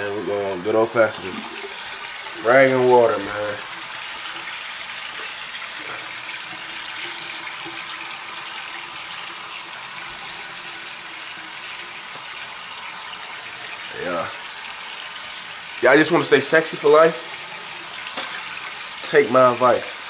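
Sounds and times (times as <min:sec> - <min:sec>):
water running from sink tap: 0:00.0 - 0:20.0.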